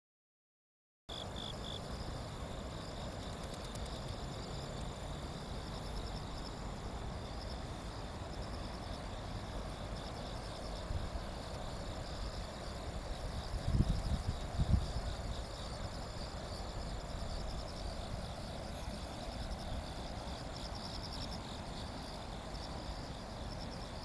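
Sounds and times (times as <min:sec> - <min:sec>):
insects chirping in trills: 0:01.1 - 0:24.0.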